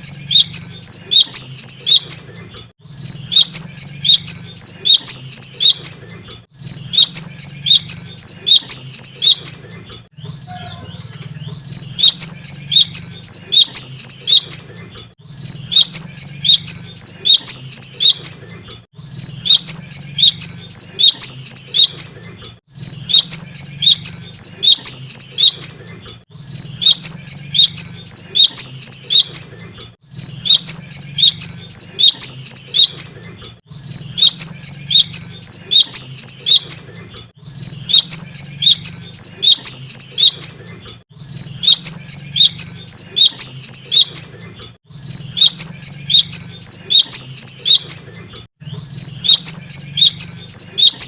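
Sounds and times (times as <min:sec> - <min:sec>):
bird singing high repeated notes: 0:00.0 - 0:25.8, 0:26.4 - 0:51.0.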